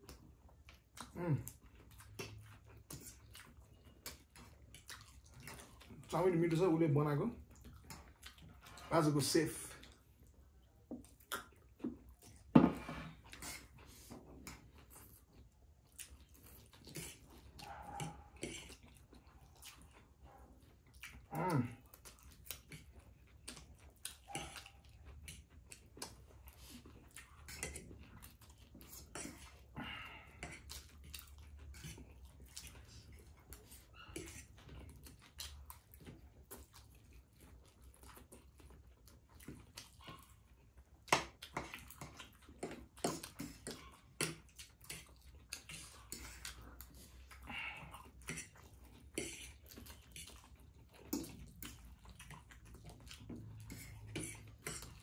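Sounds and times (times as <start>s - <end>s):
slurping and chewing: 0.0s - 55.0s.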